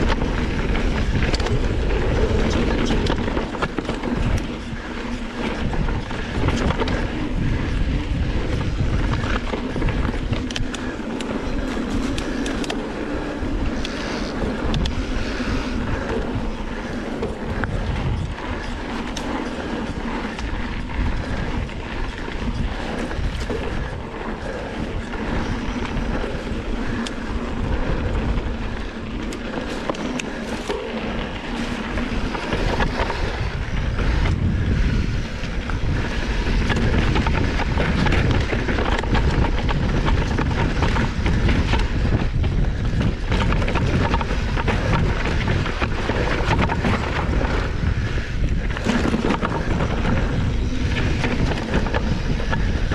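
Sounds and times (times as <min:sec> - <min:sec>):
bike rattling and clicking: 0:00.0 - 0:52.9
bike tyres rumbling over dirt: 0:00.0 - 0:52.9.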